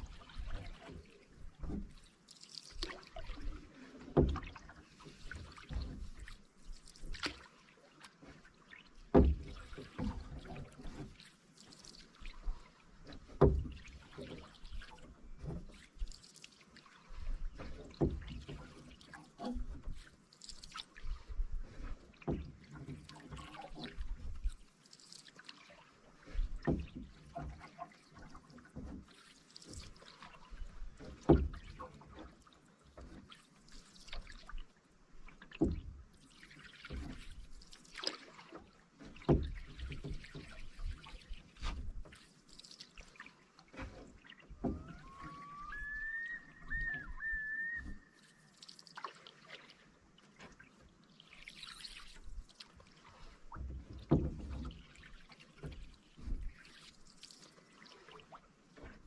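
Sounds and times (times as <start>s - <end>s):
paddle dipping and pulling: 0.0s - 59.0s
water dripping off paddle: 0.0s - 59.0s.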